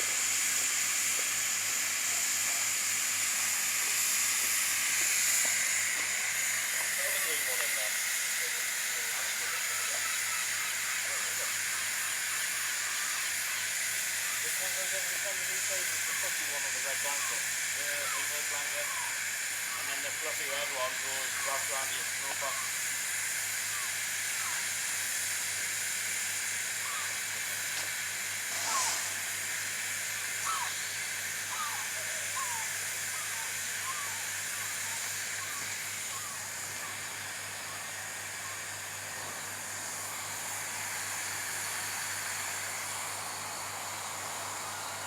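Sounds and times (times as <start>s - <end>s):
steam locomotive hissing: 0.0s - 45.0s.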